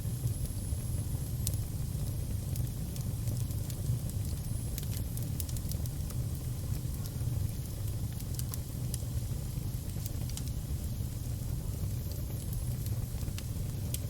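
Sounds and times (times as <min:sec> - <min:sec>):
fire low rumble: 0:00.0 - 0:14.0
fire popping and snapping: 0:00.2 - 0:14.0.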